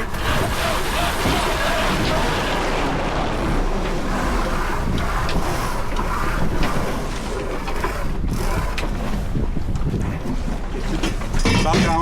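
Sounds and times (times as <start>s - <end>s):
water rushing past hull: 0.0s - 11.4s
wind buffeting microphone: 0.0s - 12.0s.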